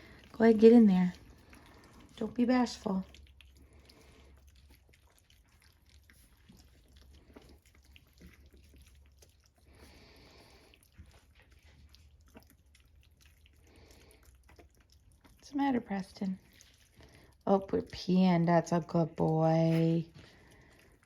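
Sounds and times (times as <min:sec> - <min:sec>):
puppies chewing and smacking: 0:00.0 - 0:21.0.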